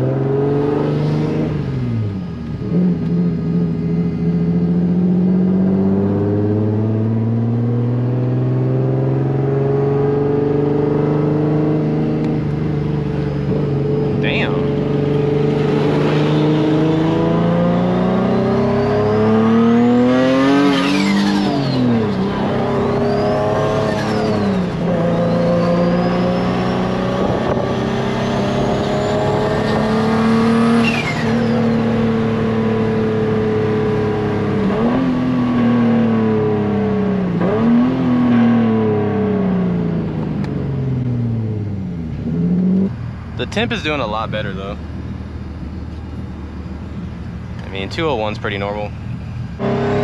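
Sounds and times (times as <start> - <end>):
car engine pulling hard: 0.0 - 50.0.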